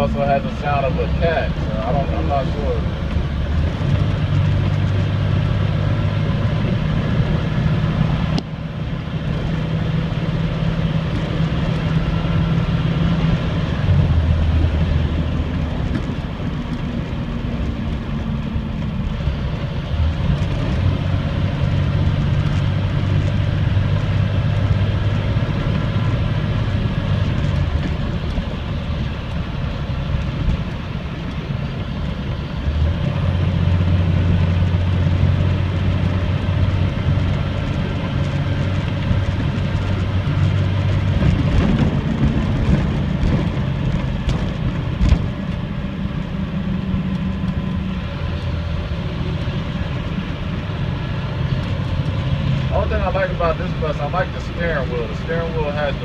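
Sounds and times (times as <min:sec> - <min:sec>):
bus diesel engine droning: 0:00.0 - 0:56.0
road noise: 0:00.0 - 0:56.0.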